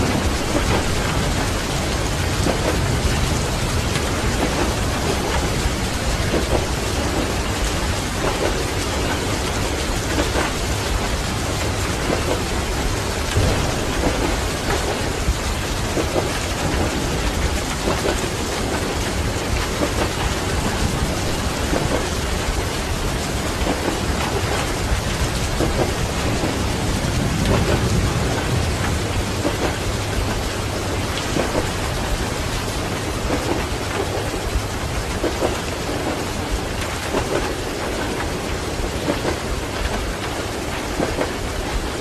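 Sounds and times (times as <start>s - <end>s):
low rumble of thunder: 0.0s - 42.0s
steady rain: 0.0s - 42.0s.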